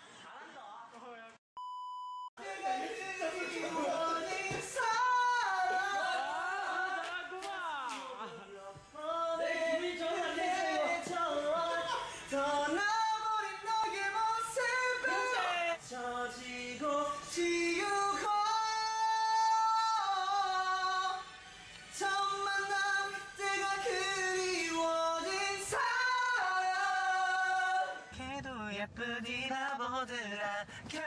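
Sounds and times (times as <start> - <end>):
man singing unaccompanied: 2.4 - 21.2, 22.0 - 31.0.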